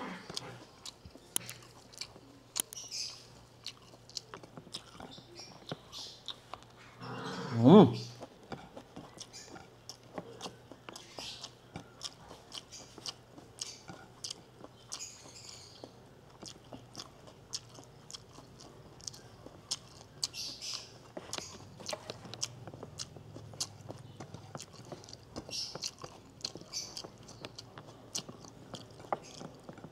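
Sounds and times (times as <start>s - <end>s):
faint low hum: 0.0s - 29.9s
mouth chewing food: 0.0s - 29.9s.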